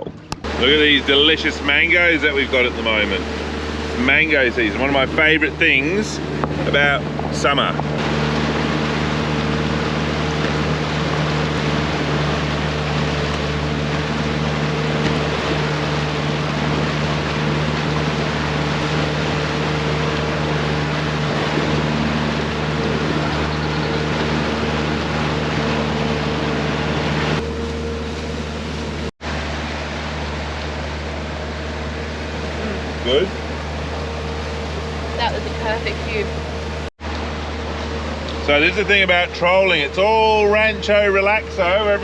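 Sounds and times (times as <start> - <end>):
motorboat engine hum: 0.0 - 42.0
wind: 0.0 - 42.0.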